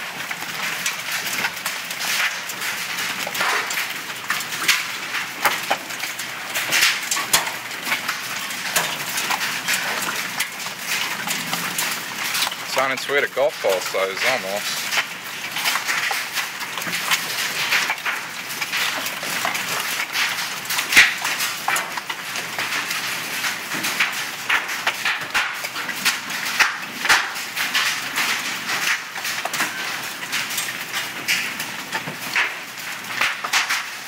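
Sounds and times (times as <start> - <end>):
hailstones pelting down: 0.0 - 34.0.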